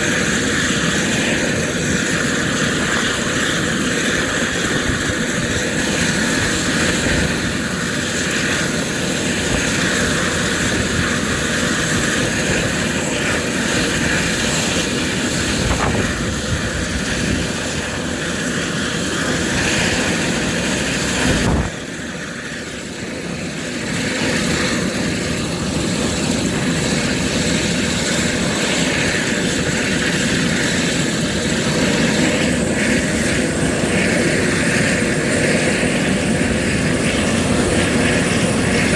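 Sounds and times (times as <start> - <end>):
helicopter engine whining: 0.0 - 38.9.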